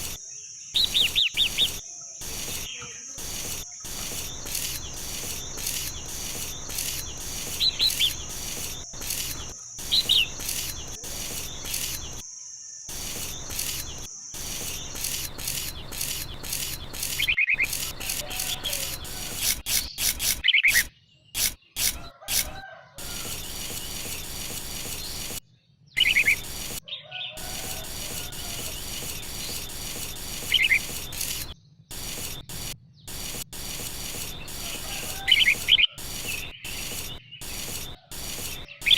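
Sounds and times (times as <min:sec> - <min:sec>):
short bird chirps: 0:00.0 - 0:12.2, 0:12.8 - 0:22.4, 0:26.0 - 0:26.8, 0:27.4 - 0:38.9.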